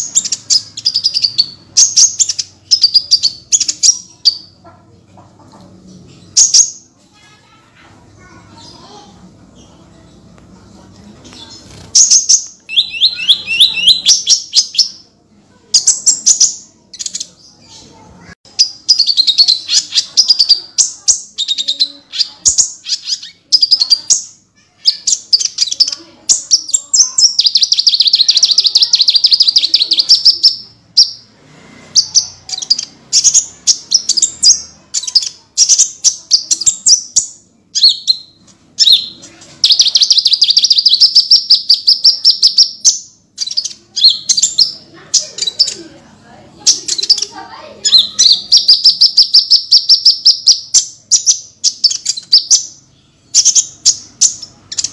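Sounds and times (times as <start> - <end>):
bird singing rapid trills: 0.0 - 4.6, 11.6 - 15.0, 15.8 - 31.3, 32.0 - 45.8, 46.6 - 54.9.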